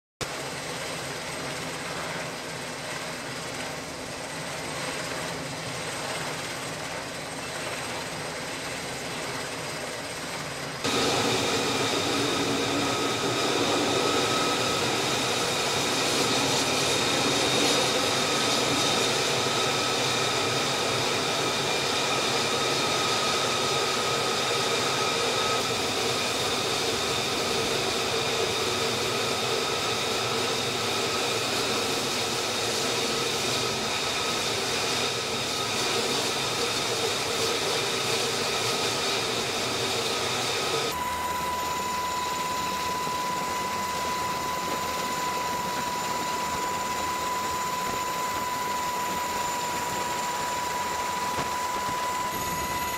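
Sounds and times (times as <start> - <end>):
jet engine whine: 0.2 - 52.9.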